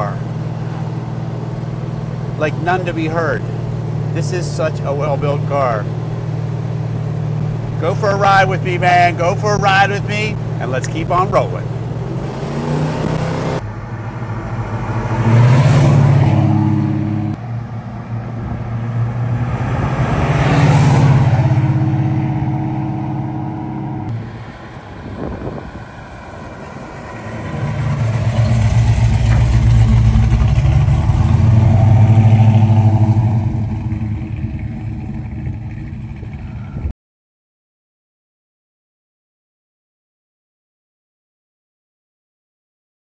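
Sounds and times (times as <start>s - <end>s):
car engine rumbling passing: 0.0s - 36.9s.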